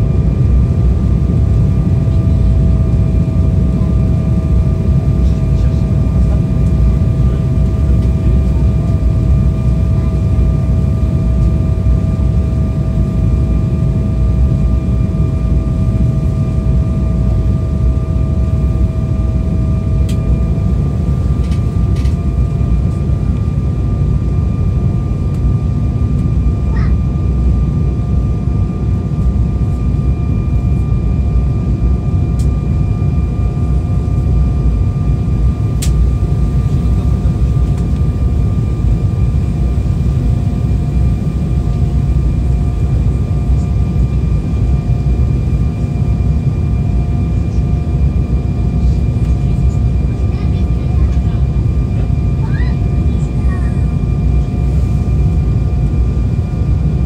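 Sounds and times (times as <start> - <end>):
airplane cabin airflow roar: 0.0 - 57.0
jet engine whine: 0.0 - 57.0.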